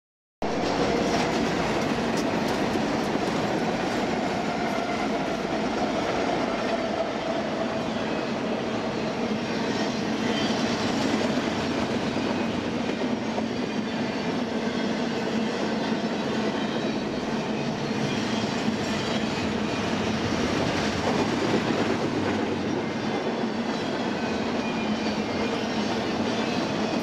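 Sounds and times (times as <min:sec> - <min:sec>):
diesel locomotives passing: 0:00.4 - 0:27.0.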